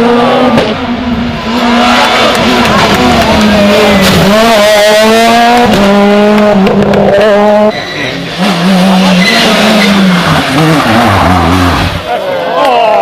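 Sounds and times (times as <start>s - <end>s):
rally car engine at high revs: 0.0s - 12.1s.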